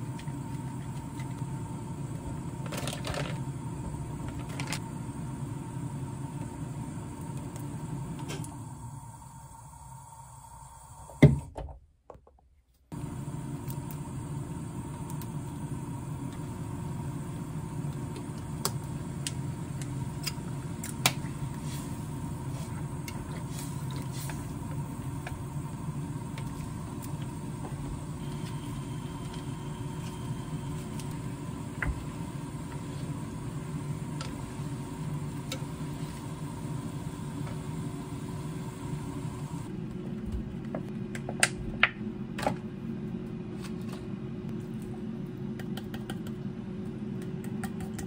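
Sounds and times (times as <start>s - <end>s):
low kitchen hum: 0.0s - 48.0s.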